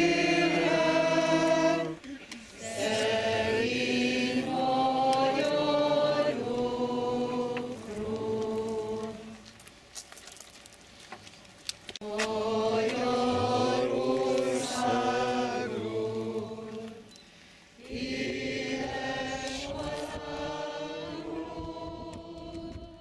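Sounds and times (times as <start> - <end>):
choir singing sustained chords: 0.0 - 9.4, 12.0 - 17.1, 17.8 - 23.0.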